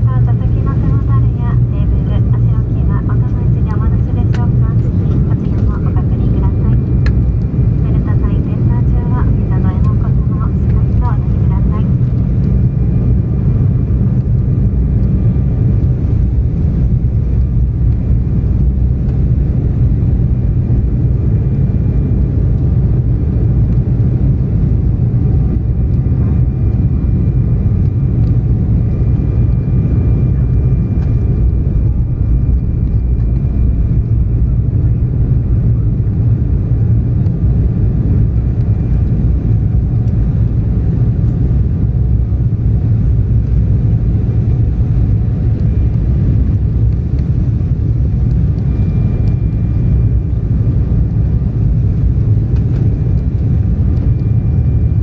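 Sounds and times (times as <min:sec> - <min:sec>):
airliner cabin rumble: 0:00.0 - 0:55.0
faint steady whine: 0:00.0 - 0:55.0.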